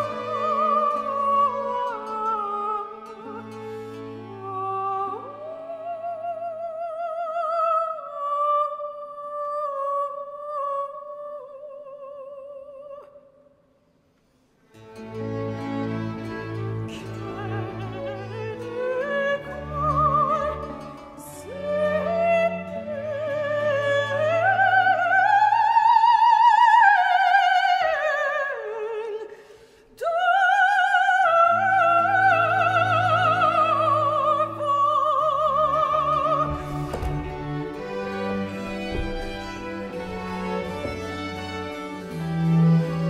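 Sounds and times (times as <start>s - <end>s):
string orchestra: 0.0s - 11.0s, 14.6s - 43.0s
soprano singing opera: 0.0s - 13.4s, 16.2s - 29.4s, 30.0s - 43.0s.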